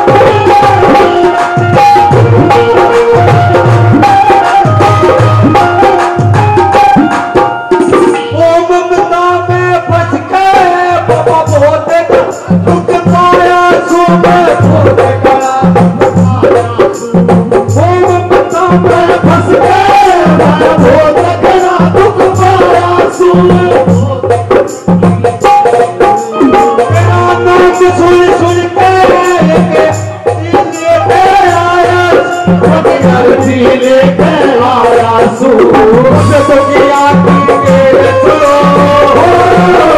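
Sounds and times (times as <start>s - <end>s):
hand drum beat: 0.0s - 39.9s
harmonium melody: 0.0s - 39.9s
other percussion: 0.0s - 39.9s.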